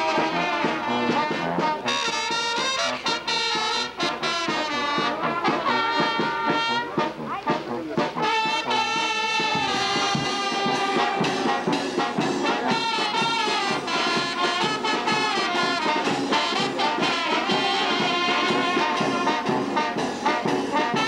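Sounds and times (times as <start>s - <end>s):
brass band playing: 0.0s - 21.0s.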